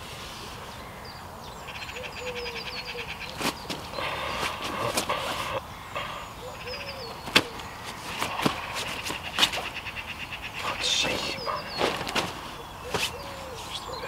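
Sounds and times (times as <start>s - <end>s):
birds singing and calling: 0.4s - 14.0s.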